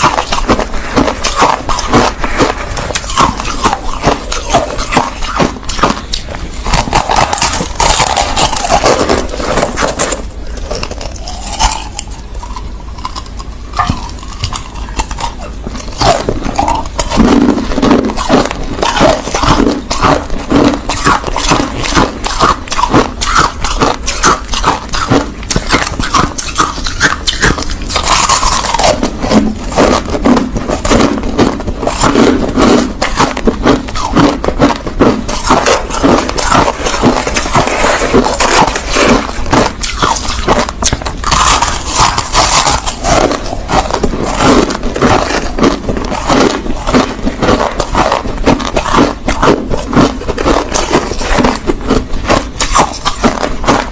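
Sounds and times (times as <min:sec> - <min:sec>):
crushed ice being chewed: 0:00.0 - 0:53.9.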